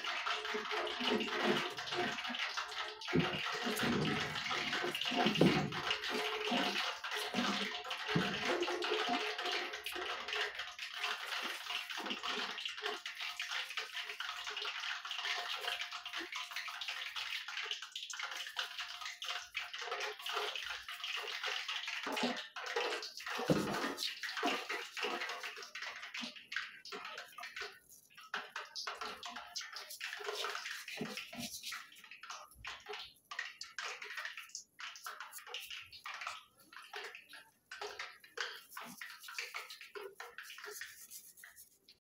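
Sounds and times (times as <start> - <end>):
dough frying in sizzling oil: 0.0 - 42.0.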